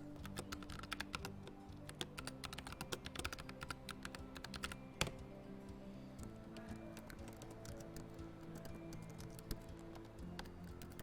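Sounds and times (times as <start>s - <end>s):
background music: 0.0s - 11.0s
rapid typing on keyboard: 0.1s - 5.2s, 6.6s - 11.0s.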